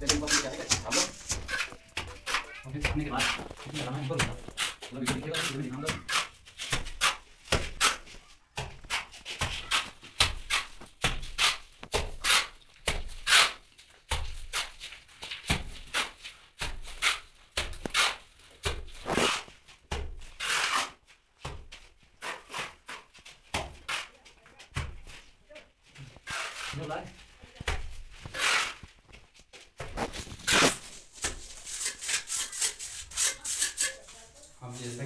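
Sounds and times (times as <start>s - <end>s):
trowel slapping wet mortar: 0.0s - 24.1s, 27.6s - 29.0s, 29.9s - 34.2s.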